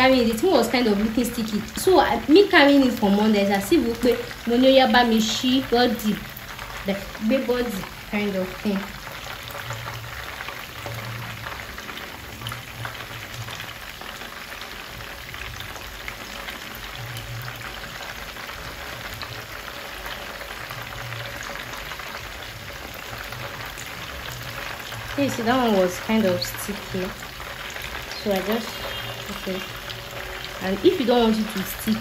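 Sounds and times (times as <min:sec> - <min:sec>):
fish frying in hot oil: 0:00.0 - 0:32.0.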